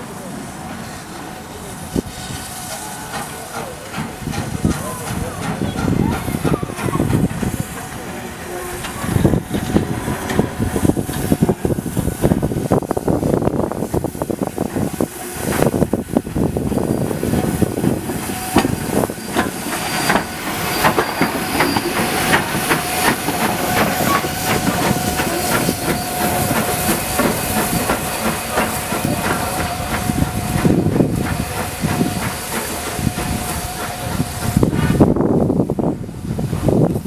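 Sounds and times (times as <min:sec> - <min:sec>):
steam hissing: 0:00.0 - 0:37.0
steam locomotive exhaust beats: 0:00.0 - 0:37.0.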